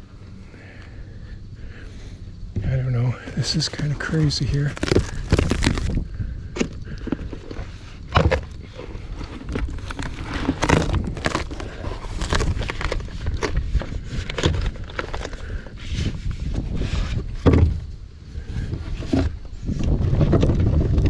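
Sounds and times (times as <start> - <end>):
steady low rumble: 0.0 - 21.0
knocks thuds and scrapes: 2.6 - 6.0, 6.6 - 21.0.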